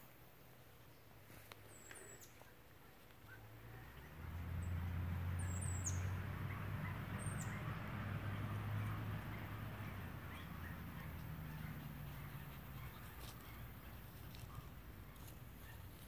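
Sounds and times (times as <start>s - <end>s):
small birds chirping: 0.8s - 16.0s.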